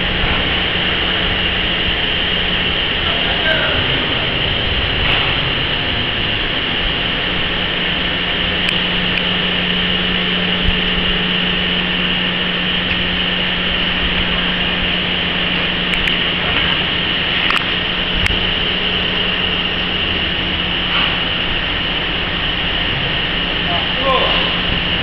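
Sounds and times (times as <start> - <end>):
low machinery hum: 0.0 - 25.0.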